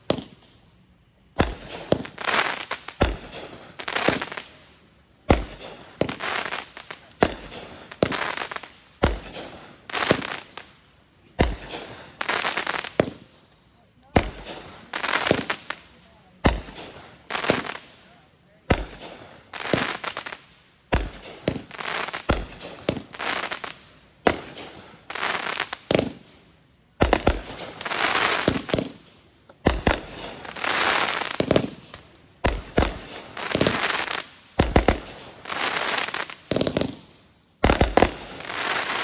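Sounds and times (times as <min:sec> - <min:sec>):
firework bangs: 0:00.0 - 0:00.6, 0:01.3 - 0:39.0
firework crackling hiss: 0:00.0 - 0:39.0.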